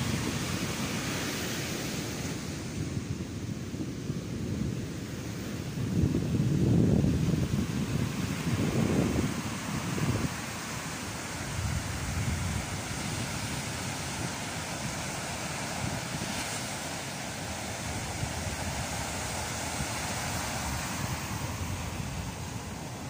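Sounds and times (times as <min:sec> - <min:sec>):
ocean surf on beach: 0:00.0 - 0:23.0
wind buffeting microphone: 0:00.0 - 0:23.0.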